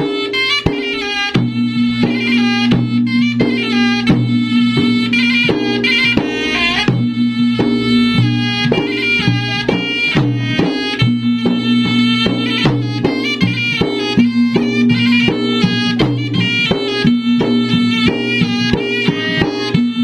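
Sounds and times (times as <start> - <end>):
drums beating quick rhythm: 0.0 - 20.0
wind instrument melody: 0.0 - 20.0.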